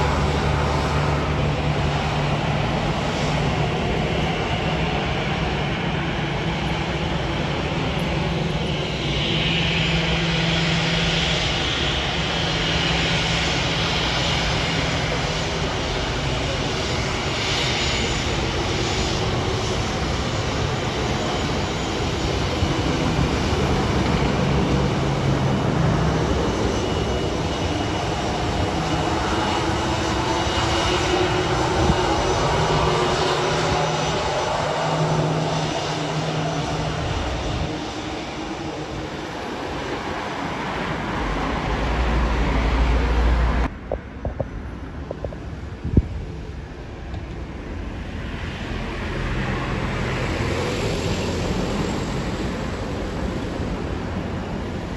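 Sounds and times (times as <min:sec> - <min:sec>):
aircraft engines running: 0:00.0 - 0:54.9.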